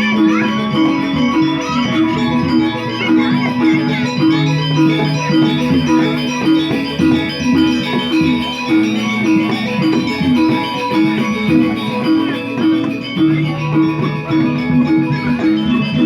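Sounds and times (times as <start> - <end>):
bronze metallophones interlocking: 0.0 - 16.0.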